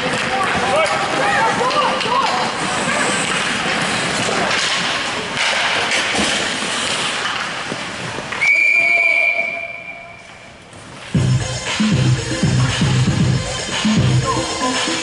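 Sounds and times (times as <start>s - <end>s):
rink and spectator noise: 0.0s - 15.0s.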